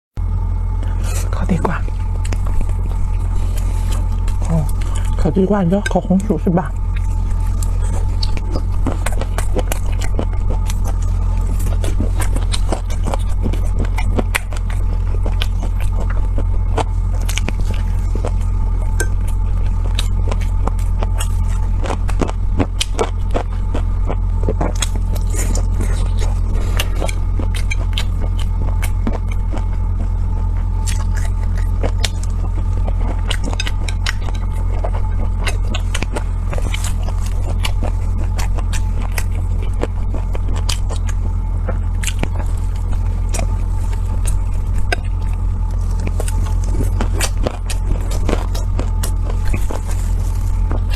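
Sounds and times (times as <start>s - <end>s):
steady low rumble: 0.2s - 50.9s.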